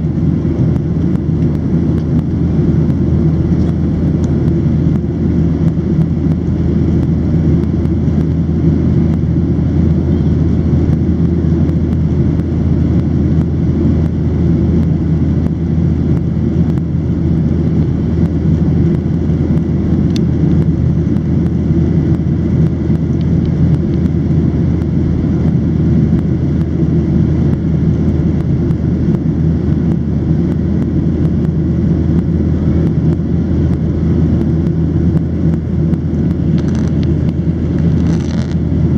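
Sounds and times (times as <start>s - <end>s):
jet engine cabin drone: 0.0s - 38.9s.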